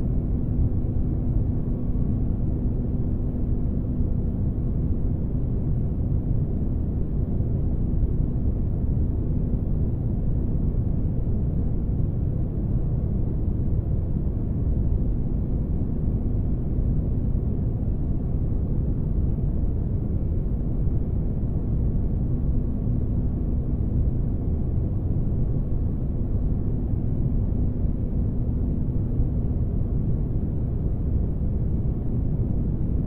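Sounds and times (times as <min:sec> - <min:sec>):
faint constant hum: 0:00.0 - 0:33.0.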